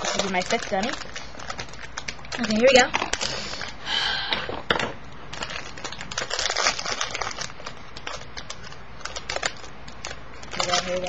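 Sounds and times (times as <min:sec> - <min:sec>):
packaging crinkling and rustling: 0:00.0 - 0:03.8, 0:04.7 - 0:11.0
small crackles and clicks: 0:00.0 - 0:03.8, 0:05.3 - 0:11.0.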